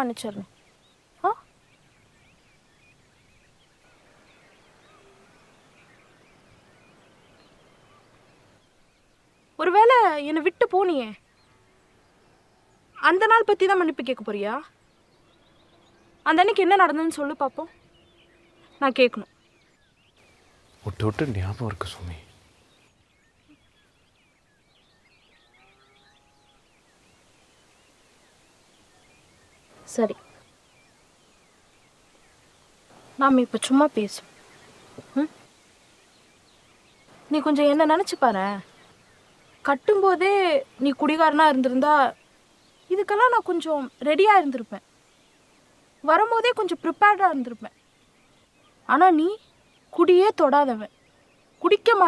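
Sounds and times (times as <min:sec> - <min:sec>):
distant birds chirping: 0:00.0 - 0:52.0.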